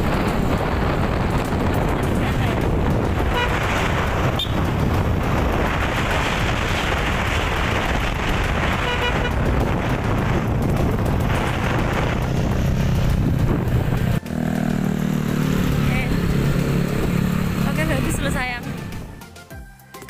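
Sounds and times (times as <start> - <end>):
motorcycle engines running: 0.0 - 19.2
road and wind noise: 0.0 - 19.9.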